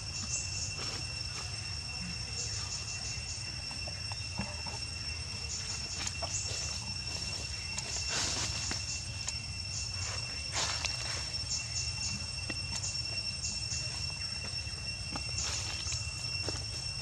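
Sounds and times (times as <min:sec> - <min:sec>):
crickets chirring: 0:00.0 - 0:17.0
steady low hum: 0:00.0 - 0:17.0.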